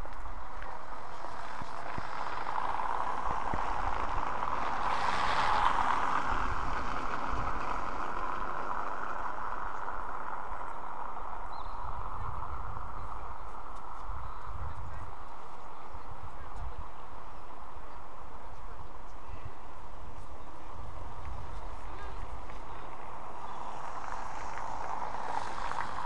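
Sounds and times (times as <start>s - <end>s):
city street rushing hum: 0.0s - 26.0s.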